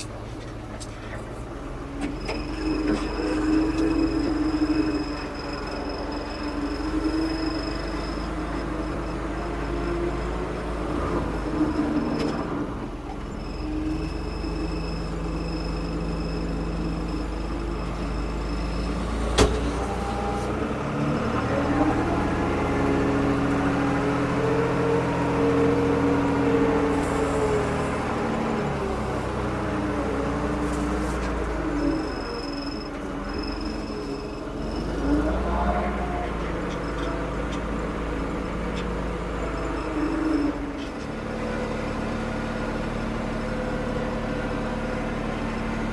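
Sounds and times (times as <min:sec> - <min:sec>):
backhoe diesel engine running: 0:00.0 - 0:45.9.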